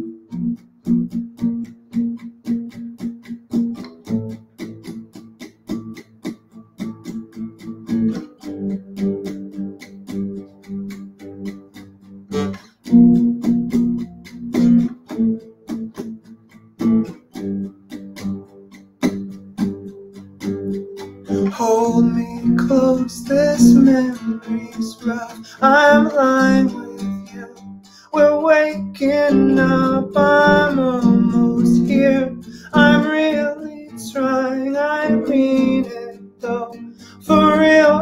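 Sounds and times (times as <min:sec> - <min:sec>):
acoustic guitars playing: 0:00.0 - 0:38.0.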